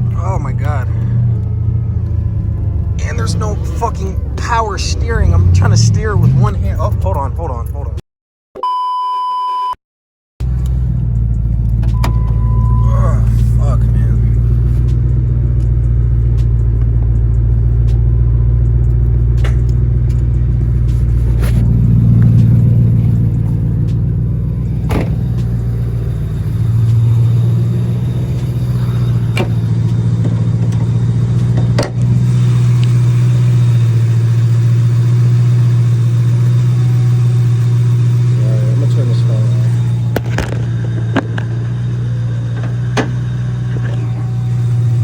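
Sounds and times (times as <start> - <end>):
car engine running: 0.0 - 8.0, 10.4 - 45.0.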